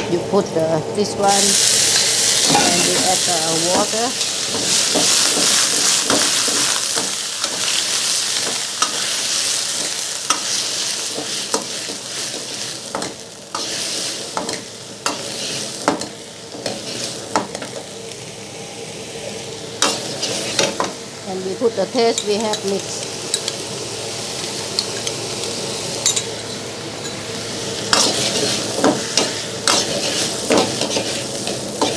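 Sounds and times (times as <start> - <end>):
vegetables sizzling in a wok: 0.0 - 31.9.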